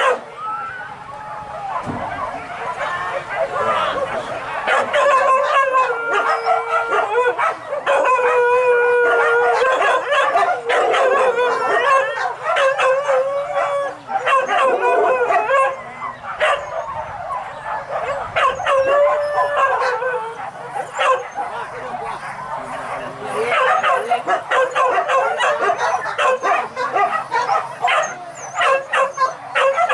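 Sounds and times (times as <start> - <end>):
dogs howling and baying: 0.0 - 29.9
dogs yipping: 0.0 - 29.9.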